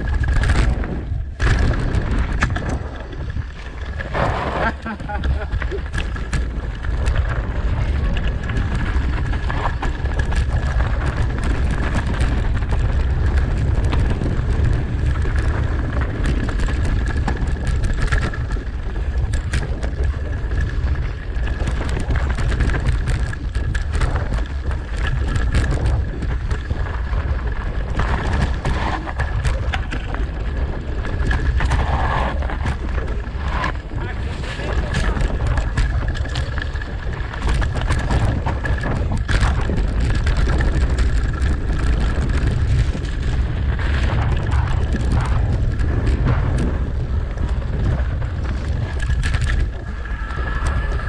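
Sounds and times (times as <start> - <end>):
bike clicks and rattles: 0.0 - 51.0
tyres rolling on dirt and leaves: 0.0 - 51.0
wind rushing over microphone: 0.0 - 51.0.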